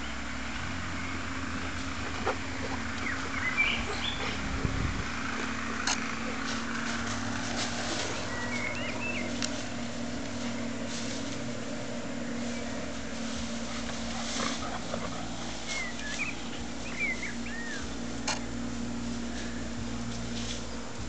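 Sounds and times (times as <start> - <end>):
branches rustling and crackling: 0.0 - 21.0
low hum: 0.0 - 21.0
branches dragged over grass: 0.7 - 21.0.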